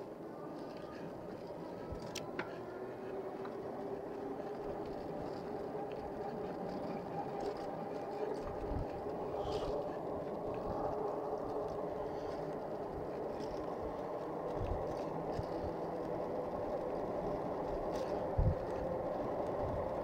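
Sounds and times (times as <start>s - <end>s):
hum: 0.0s - 20.0s
tyre and road rumble: 0.0s - 20.0s.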